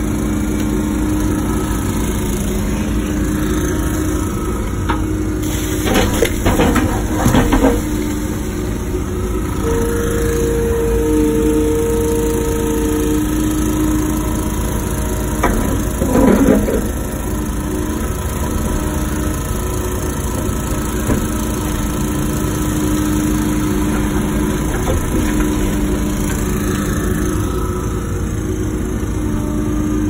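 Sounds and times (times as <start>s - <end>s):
excavator diesel engine running: 0.0s - 30.0s
hydraulic whine: 0.0s - 30.0s.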